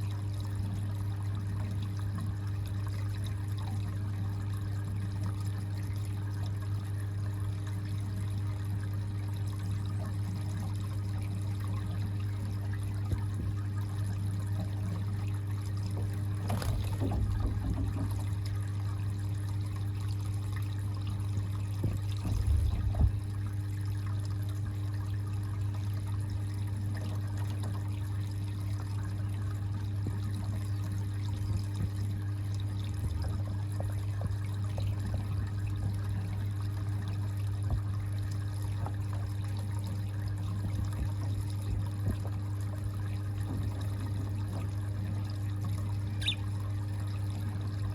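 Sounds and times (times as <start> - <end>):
low constant hum: 0.0 - 47.9
water trickling and pouring: 0.0 - 47.9.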